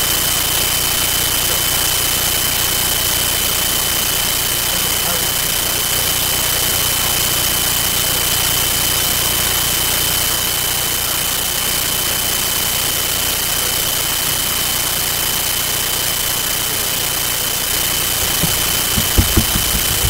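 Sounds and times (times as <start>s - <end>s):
steady loud hiss: 0.0s - 20.0s.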